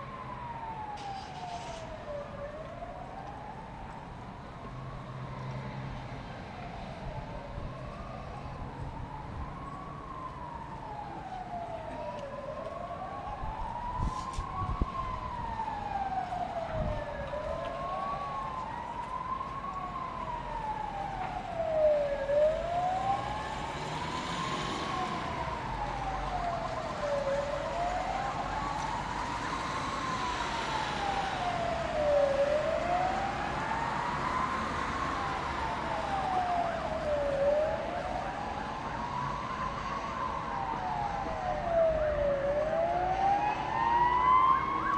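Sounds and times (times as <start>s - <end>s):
distant emergency sirens wailing: 0.0s - 44.9s
faint second siren wailing: 0.0s - 44.9s.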